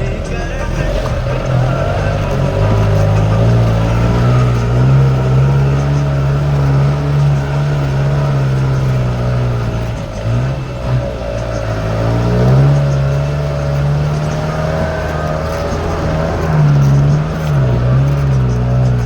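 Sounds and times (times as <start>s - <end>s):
vehicle engine under load: 0.0s - 19.0s.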